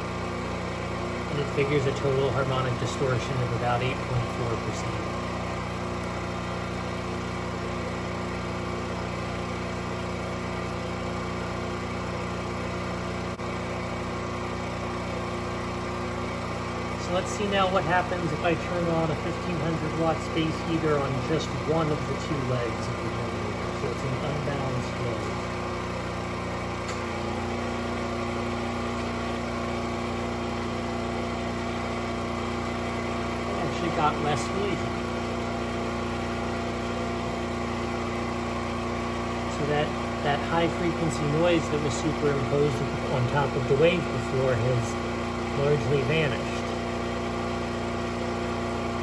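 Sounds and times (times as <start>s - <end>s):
generator engine humming: 0.0s - 49.0s.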